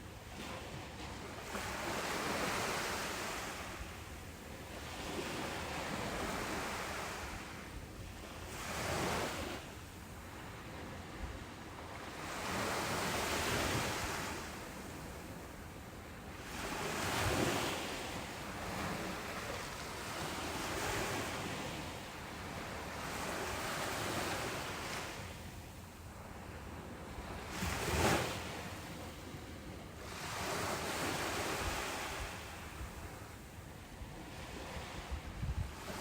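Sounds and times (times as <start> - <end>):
ocean waves breaking on a beach: 0.0 - 36.0.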